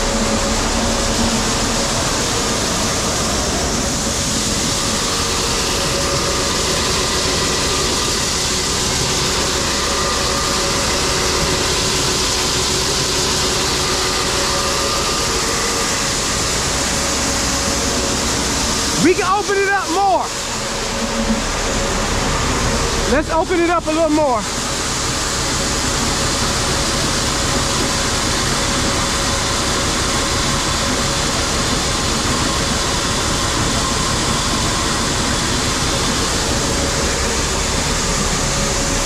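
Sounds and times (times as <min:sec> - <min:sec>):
auger running: 0:00.0 - 0:39.0.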